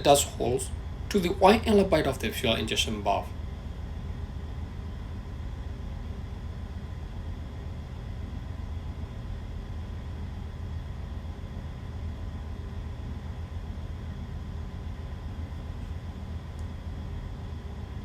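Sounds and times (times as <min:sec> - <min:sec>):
faint constant tones: 0:00.0 - 0:18.0
low machinery drone: 0:00.0 - 0:18.0.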